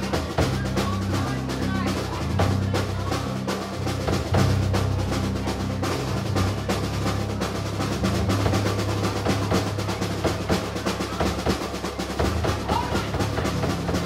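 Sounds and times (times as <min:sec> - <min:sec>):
fast drumming with snare rolls: 0:00.0 - 0:14.0
live rock band playing: 0:00.0 - 0:14.0.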